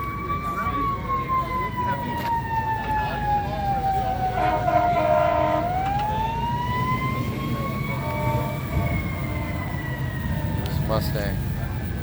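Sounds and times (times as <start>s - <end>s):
emergency siren wailing: 0.0s - 12.0s.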